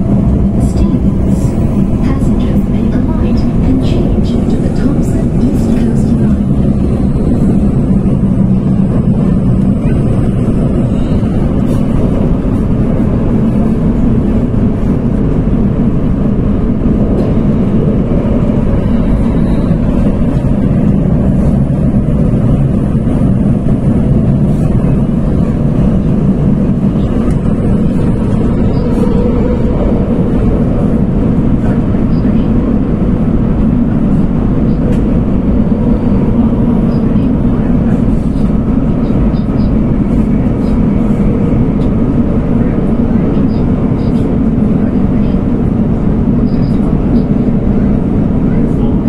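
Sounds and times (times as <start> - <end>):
train rumbling in tunnel: 0.0 - 49.0.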